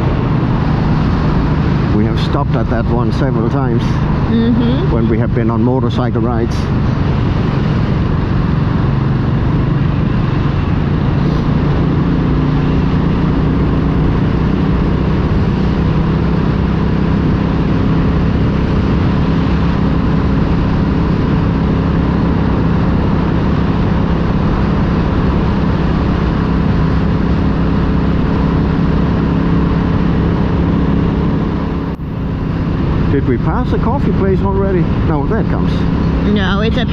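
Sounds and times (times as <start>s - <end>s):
motorcycle engine cruising: 0.0s - 36.9s
road noise: 0.0s - 36.9s.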